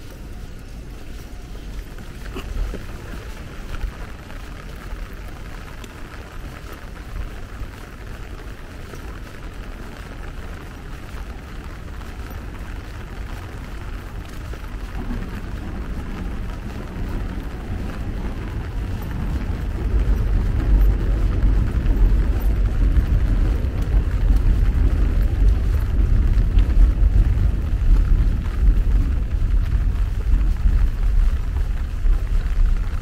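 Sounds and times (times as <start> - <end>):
rain hissing: 0.0 - 33.0
subway train rumbling: 0.0 - 33.0.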